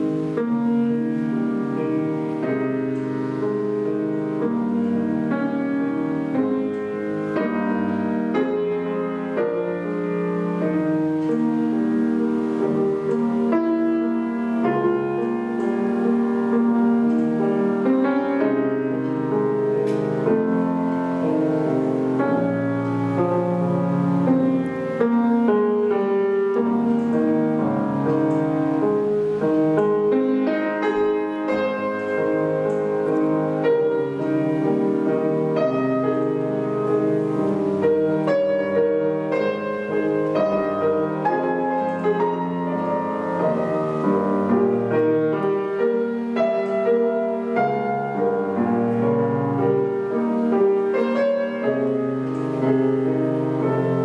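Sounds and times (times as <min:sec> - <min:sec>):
solo piano classical piece: 0:00.0 - 0:54.0.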